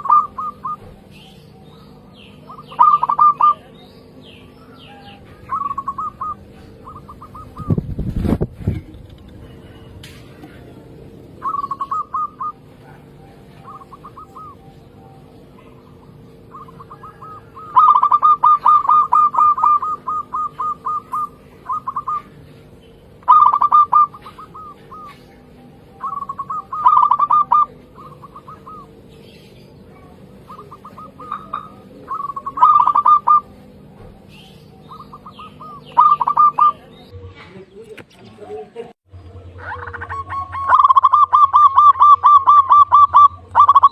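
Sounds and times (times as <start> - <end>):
dove cooing: 0.0 - 37.5, 39.2 - 43.9
faint steady hum: 0.0 - 43.9.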